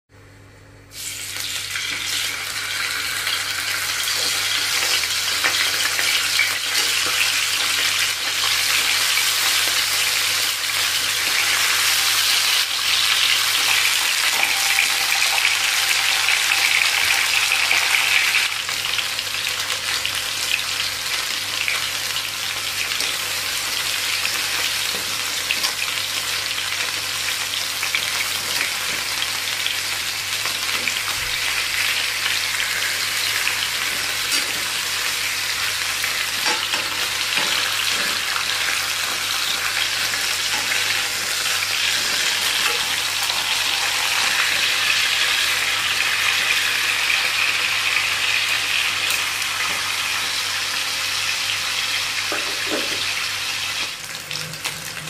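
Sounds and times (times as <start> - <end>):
food sizzling in hot oil: 0.9 - 55.0.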